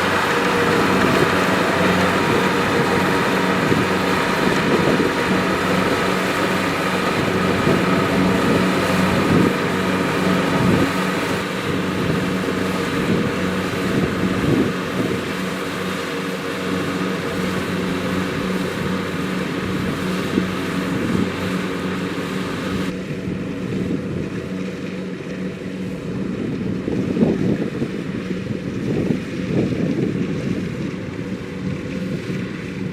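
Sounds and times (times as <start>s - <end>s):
combine harvester droning: 0.0s - 32.9s.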